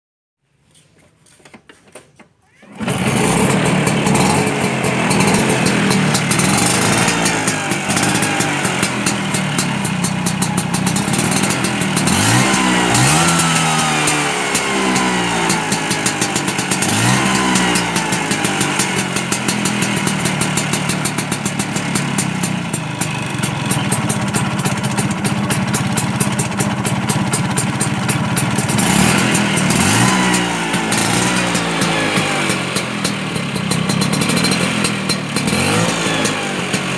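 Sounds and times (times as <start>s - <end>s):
scooter engine revving with crackle: 2.5s - 36.9s.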